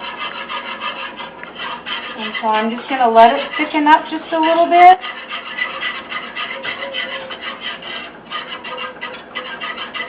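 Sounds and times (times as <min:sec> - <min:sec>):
whisk scraping a saucepan: 0:00.0 - 0:10.0.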